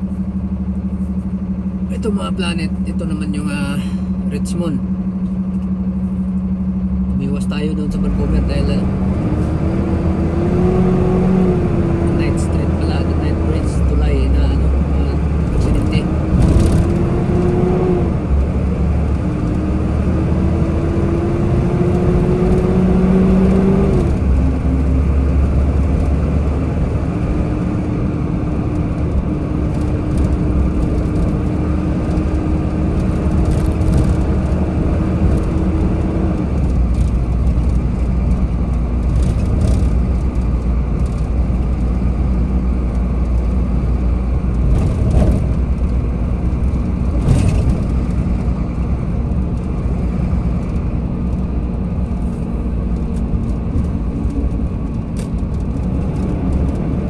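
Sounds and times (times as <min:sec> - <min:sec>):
car engine: 0:00.0 - 0:57.0.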